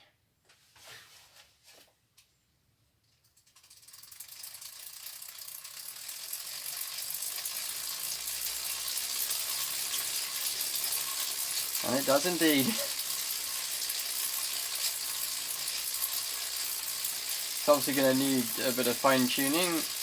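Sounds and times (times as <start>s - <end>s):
bicycle freewheel clicking rapidly: 3.2s - 20.0s.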